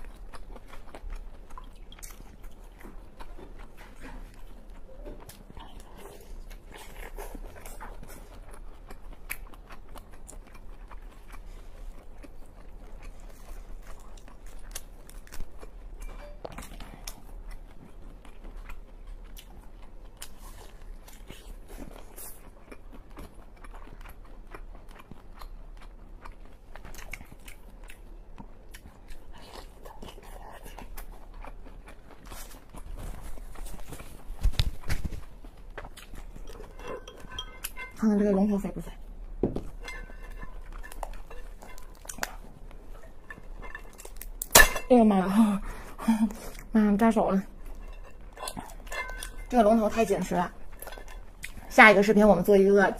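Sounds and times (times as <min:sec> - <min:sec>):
chewing and biting: 0:00.0 - 0:38.0, 0:38.6 - 0:44.9, 0:45.6 - 0:52.1.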